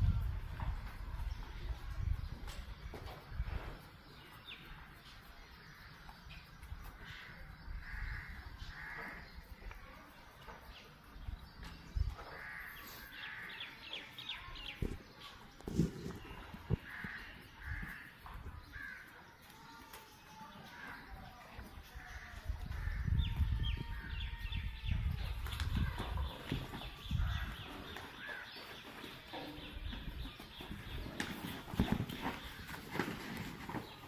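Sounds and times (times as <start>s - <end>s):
birds calling: 2.4s - 34.0s.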